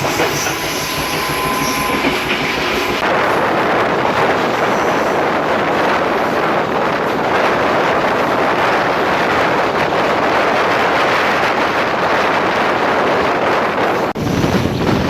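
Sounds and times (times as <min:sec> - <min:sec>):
train running noise: 0:00.0 - 0:15.0
wind buffeting microphone: 0:00.0 - 0:15.0.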